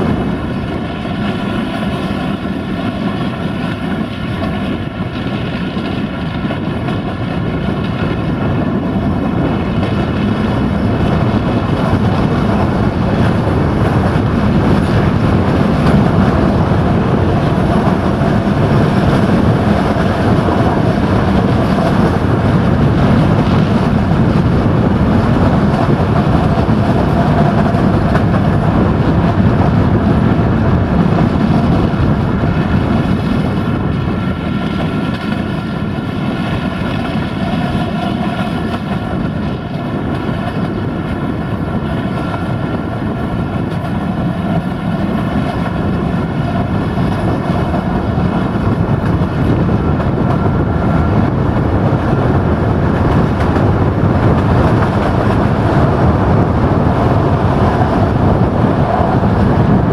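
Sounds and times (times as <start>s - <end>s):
diesel locomotive droning: 0.0s - 59.9s
wheels rumbling on rails: 0.0s - 59.9s.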